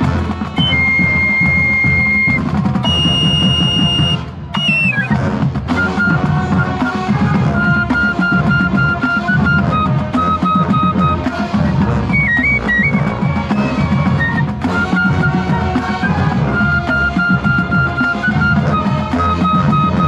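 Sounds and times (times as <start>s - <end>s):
marching band playing: 0.0s - 20.0s
piccolo high melody notes: 0.5s - 20.0s.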